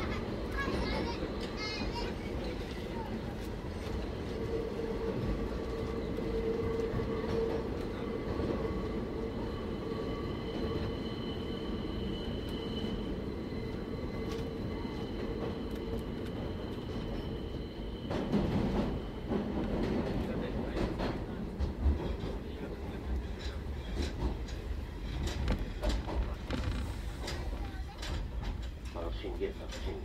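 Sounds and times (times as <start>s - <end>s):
subway car rumble: 0.0s - 30.0s.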